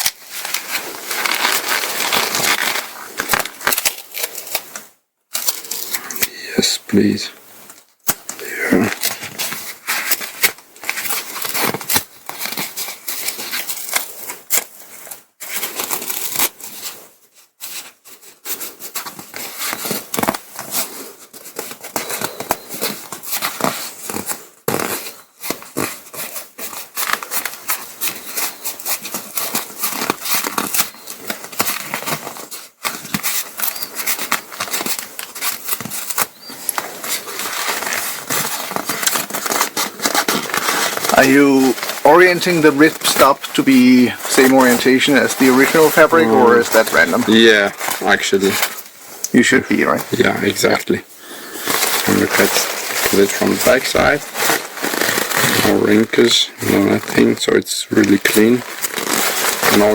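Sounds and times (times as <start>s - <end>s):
nylon fabric crinkling: 0.0s - 6.3s, 8.3s - 59.9s.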